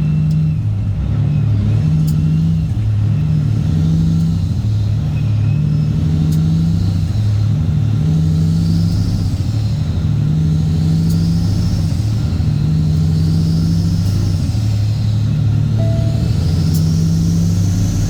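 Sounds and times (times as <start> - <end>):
loud diesel truck exhaust drone: 0.0 - 18.0.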